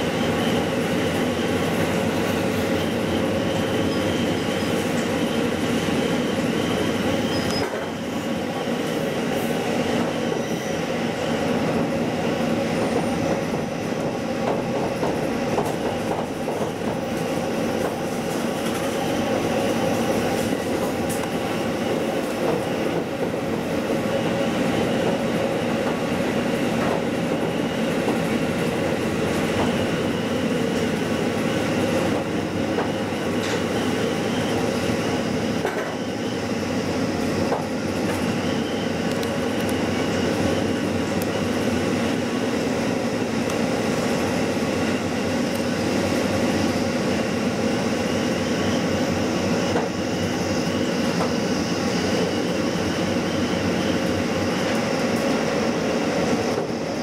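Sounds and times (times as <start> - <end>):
diesel railcar engine running: 0.0 - 57.0
train wheels on rails: 0.0 - 57.0.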